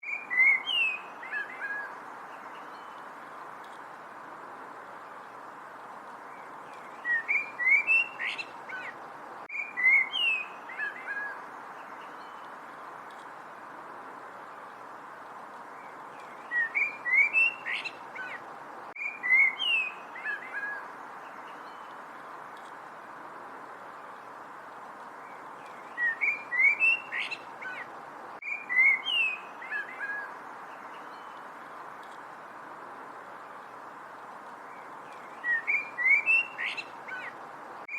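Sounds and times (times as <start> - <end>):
background hiss: 0.0 - 37.9
songbird chirping: 0.0 - 37.9.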